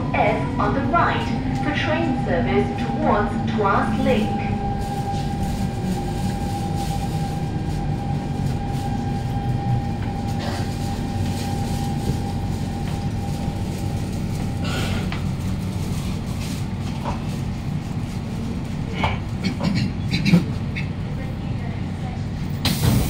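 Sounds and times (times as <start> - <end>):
train low running rumble: 0.0 - 23.0
train steady whine: 0.0 - 23.0.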